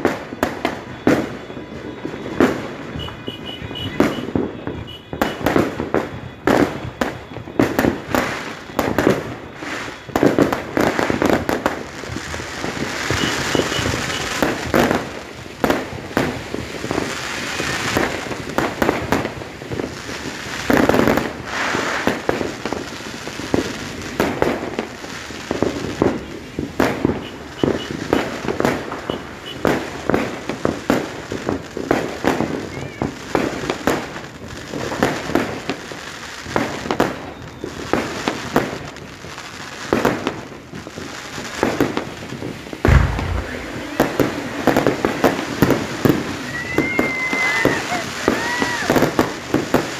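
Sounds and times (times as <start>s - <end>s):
dense fireworks crackling: 0.0s - 49.9s
fireworks banging: 0.0s - 49.9s.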